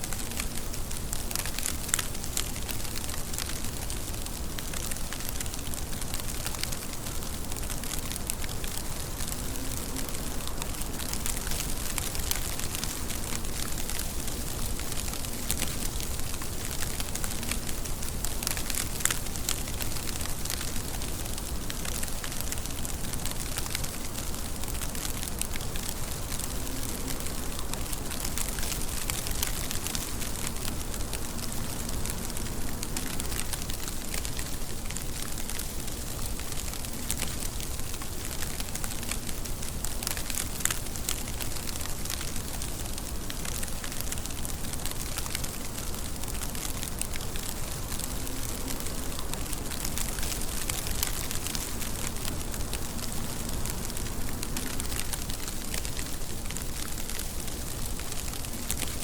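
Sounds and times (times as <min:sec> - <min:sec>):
raindrop ticks: 0:00.0 - 0:59.0
steady rain: 0:00.0 - 0:59.0.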